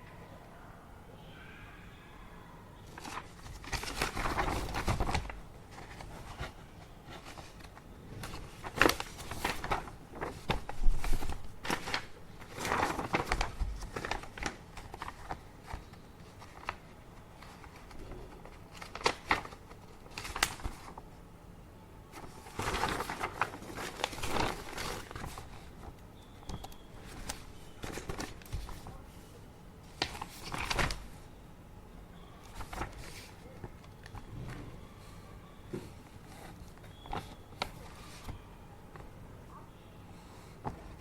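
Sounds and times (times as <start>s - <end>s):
paper rustling and crinkling: 2.9s - 21.1s, 22.1s - 29.1s, 29.8s - 31.2s, 32.4s - 35.1s, 35.7s - 39.1s, 40.2s - 41.0s.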